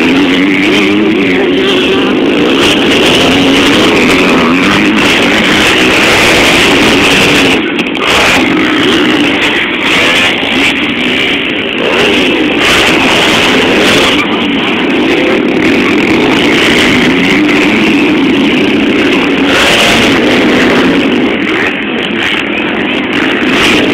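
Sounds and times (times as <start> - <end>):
motocross engines revving: 0.0 - 23.9.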